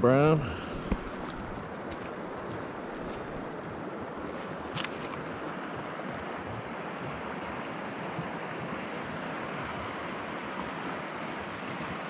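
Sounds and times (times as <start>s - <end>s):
river flowing over rocks: 0.1s - 12.0s.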